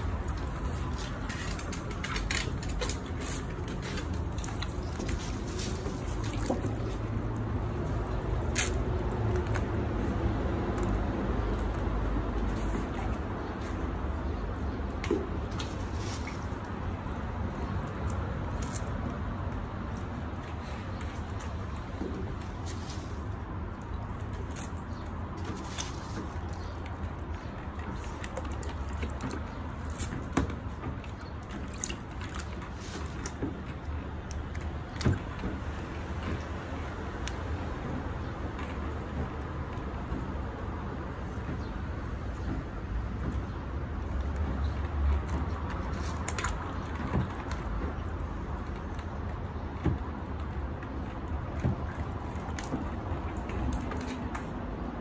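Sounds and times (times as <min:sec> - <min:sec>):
water sloshing in tub: 0:00.0 - 0:55.0.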